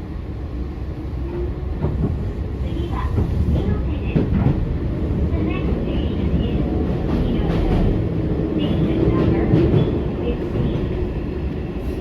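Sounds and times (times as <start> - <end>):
train wheels rumbling on rails: 0.7 - 12.0.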